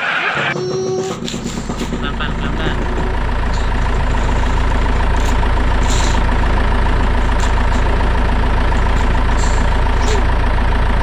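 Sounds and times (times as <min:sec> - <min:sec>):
engine-like drone: 0:00.0 - 0:11.0.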